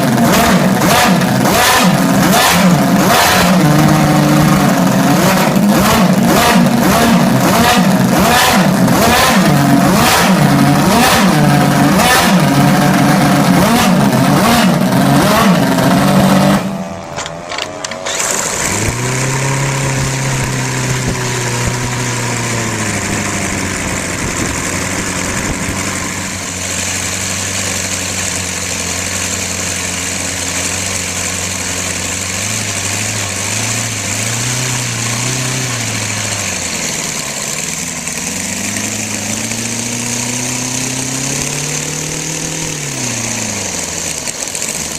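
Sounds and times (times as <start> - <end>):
model engine idling: 0.0 - 44.9
model engine revving: 0.0 - 44.9.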